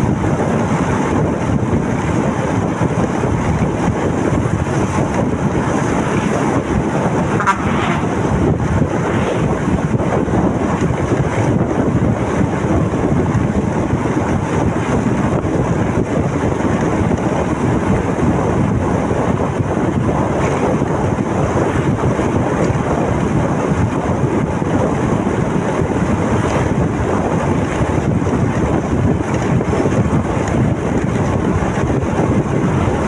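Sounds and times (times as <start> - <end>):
motorcycle running and road noise: 0.0 - 33.0
wind buffeting microphone: 0.0 - 33.0.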